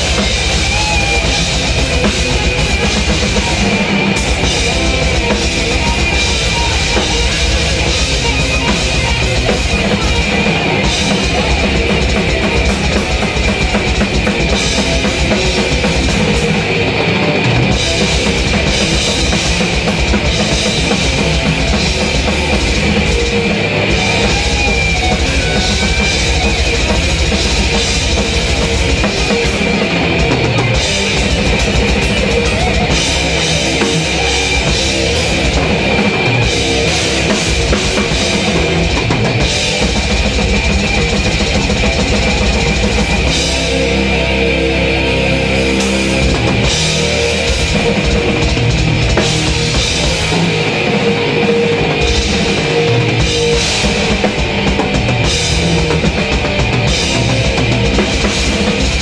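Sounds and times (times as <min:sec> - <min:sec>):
distorted metal music: 0:00.0 - 0:59.0
heavy metal drumming: 0:00.0 - 0:59.0.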